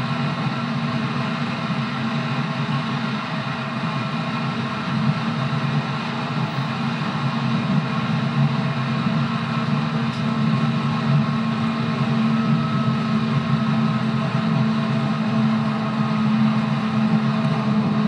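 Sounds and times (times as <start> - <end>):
electric train running: 0.0 - 18.0.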